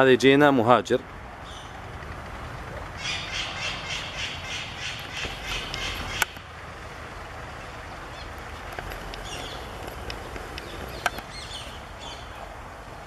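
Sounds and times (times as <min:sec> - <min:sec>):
steady background noise: 0:00.0 - 0:13.0
small birds chirping: 0:01.4 - 0:02.0, 0:02.8 - 0:13.0.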